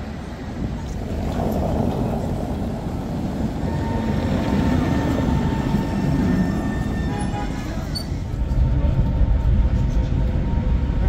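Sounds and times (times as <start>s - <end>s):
tram rumbling past: 0.0s - 11.0s.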